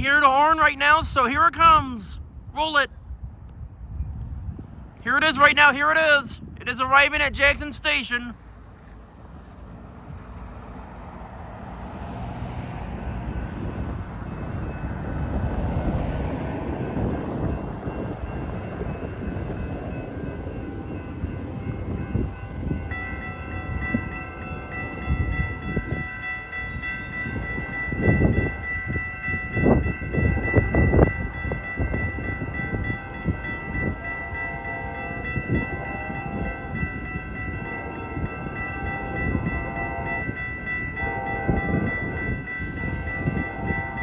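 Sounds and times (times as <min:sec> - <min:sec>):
train rumbling: 0:08.4 - 0:44.0.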